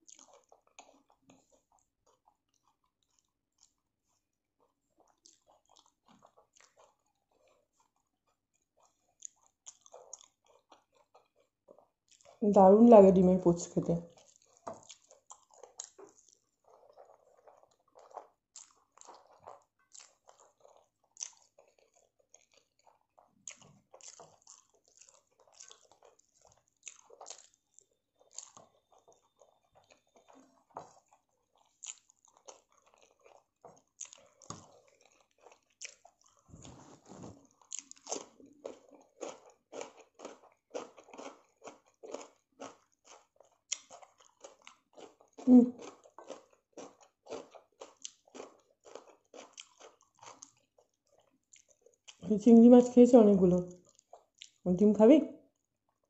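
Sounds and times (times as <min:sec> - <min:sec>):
person chewing with mouth smacks: 0:00.0 - 0:12.4, 0:13.9 - 0:52.3, 0:53.6 - 0:54.6.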